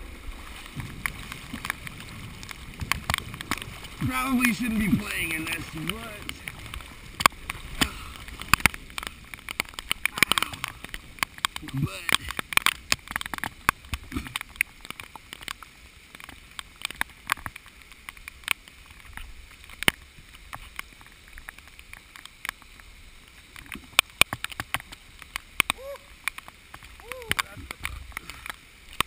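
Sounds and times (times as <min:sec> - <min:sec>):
rain hissing: 0:00.0 - 0:29.0
raindrops ticking on camera housing: 0:00.0 - 0:29.0
running floodwater: 0:00.0 - 0:29.0.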